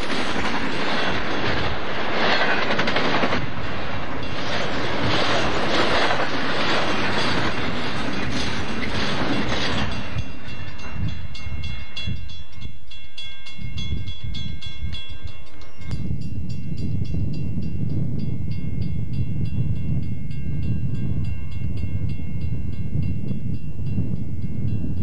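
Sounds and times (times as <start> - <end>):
diesel locomotives rumble: 0.0 - 25.0
train wheels clattering on rails: 0.0 - 25.0.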